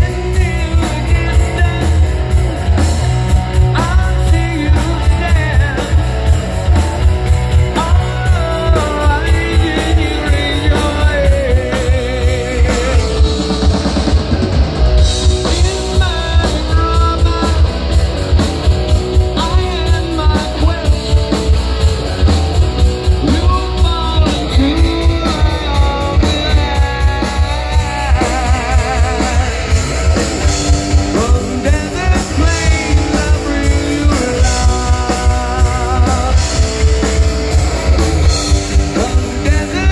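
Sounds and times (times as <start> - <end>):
person singing: 0.0 - 2.4, 3.4 - 6.3, 7.4 - 14.1, 15.2 - 18.1, 19.0 - 21.6, 23.0 - 37.2, 37.9 - 39.9
rock band playing: 0.0 - 39.9.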